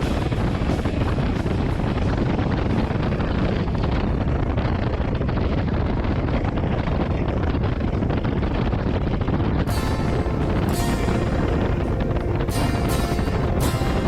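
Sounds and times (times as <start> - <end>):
wind buffeting on microphone: 0.0 - 14.0.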